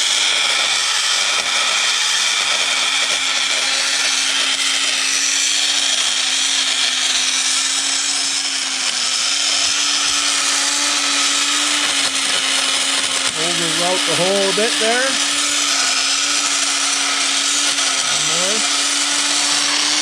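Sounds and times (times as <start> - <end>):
power tool grinding metal: 0.0 - 20.0.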